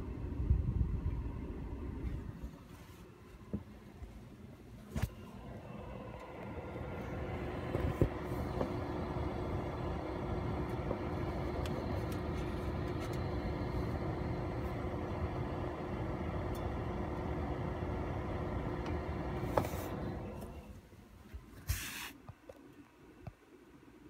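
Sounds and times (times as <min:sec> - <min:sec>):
heater fan air rush: 0:00.0 - 0:22.4
heater hum: 0:00.0 - 0:24.0.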